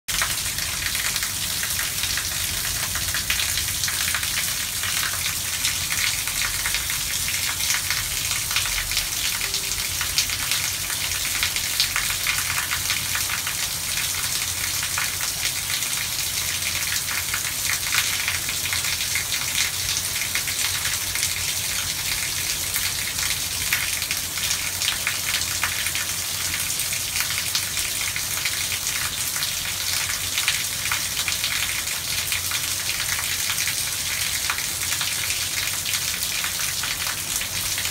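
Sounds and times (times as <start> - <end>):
heavy rain on pavement: 0.1 - 37.9.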